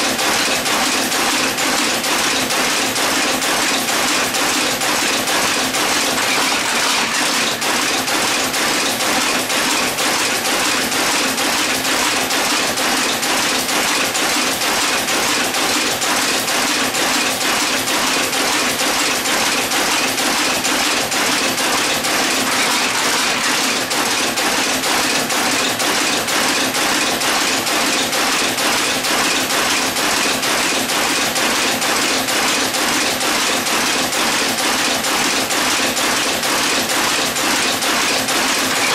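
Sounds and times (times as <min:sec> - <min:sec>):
machine clattering: 0:00.0 - 0:38.9.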